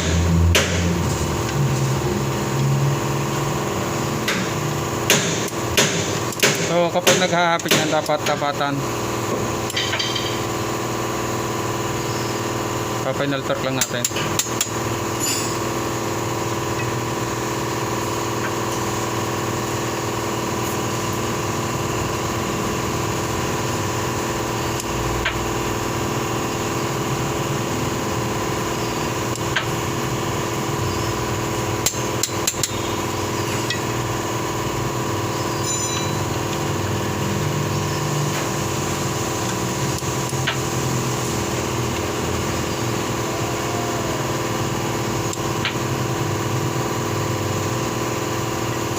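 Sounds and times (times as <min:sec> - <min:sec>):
steady mechanical hum: 0:00.0 - 0:48.9.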